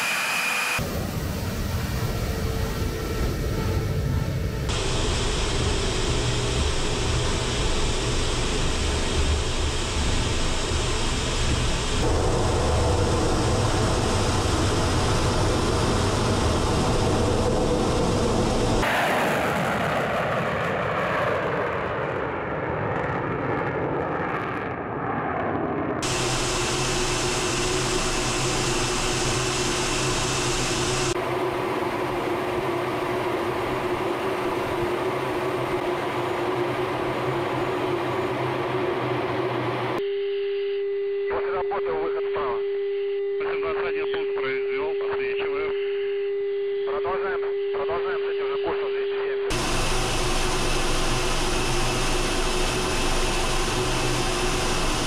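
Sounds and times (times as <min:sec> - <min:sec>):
jet climbing away: 0:00.0 - 0:22.4, 0:23.5 - 0:40.0, 0:49.5 - 0:55.0
fighter jet engine noise: 0:00.0 - 0:40.1, 0:43.4 - 0:55.0
in-flight drone with humming tone: 0:00.0 - 0:55.0.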